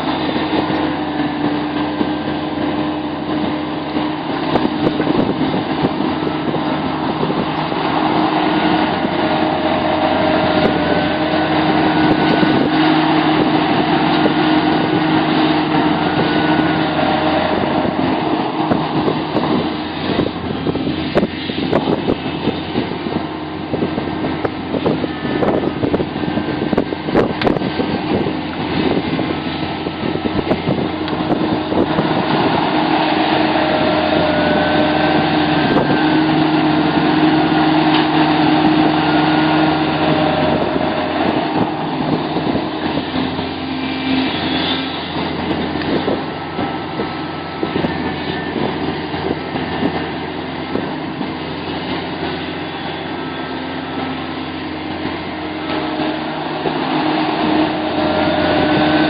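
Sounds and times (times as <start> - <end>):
excavator diesel engine: 0.0 - 59.0
hydraulic whine: 0.0 - 59.0.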